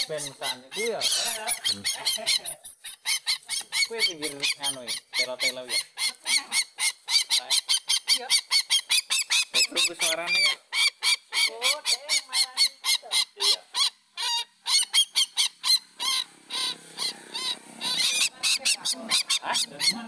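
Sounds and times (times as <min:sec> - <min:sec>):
bird harsh honking calls: 0:00.0 - 0:20.0.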